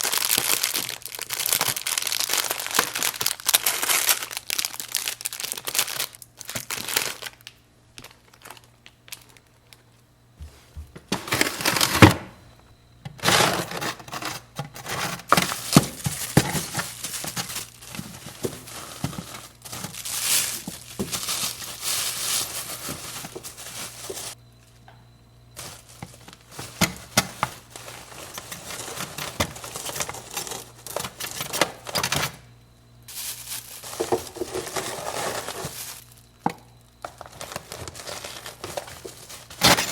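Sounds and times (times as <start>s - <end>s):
packaging crinkling: 0.0s - 9.8s, 14.1s - 24.4s, 25.6s - 32.2s, 33.1s - 39.9s.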